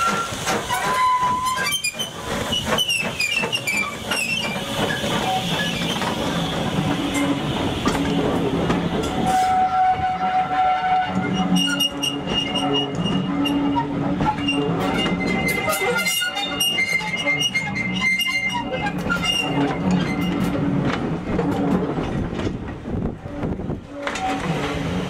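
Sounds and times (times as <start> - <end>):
train wheels clattering over rail joints: 0.0 - 10.2, 10.8 - 25.0.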